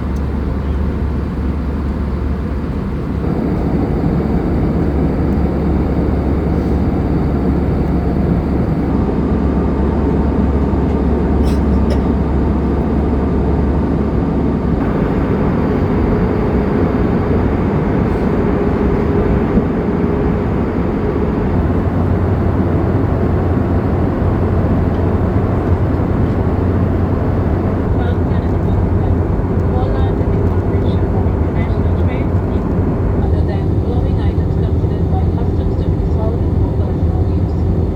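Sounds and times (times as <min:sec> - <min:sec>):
low drone: 0:00.0 - 0:10.5, 0:14.8 - 0:37.9
airplane cabin engine rush: 0:00.0 - 0:37.9.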